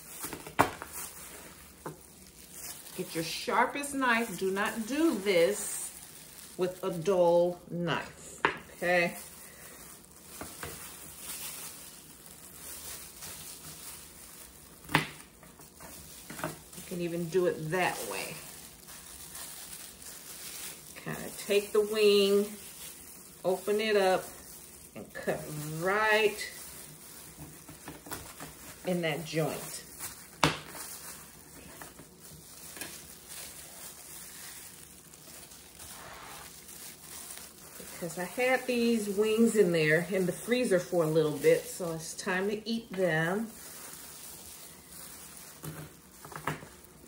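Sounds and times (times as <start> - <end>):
gloved hands rustling: 0.0 - 47.0.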